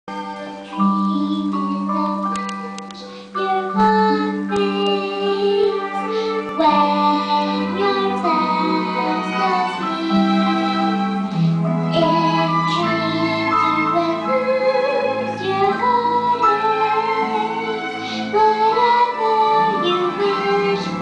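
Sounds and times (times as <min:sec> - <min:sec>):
girl singing: 0:00.1 - 0:11.1, 0:11.8 - 0:21.0
instrumental accompaniment: 0:00.1 - 0:21.0.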